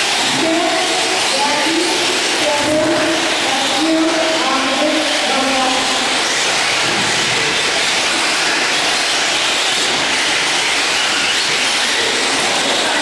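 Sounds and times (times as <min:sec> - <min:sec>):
rc truck motor whine: 0:00.0 - 0:13.0.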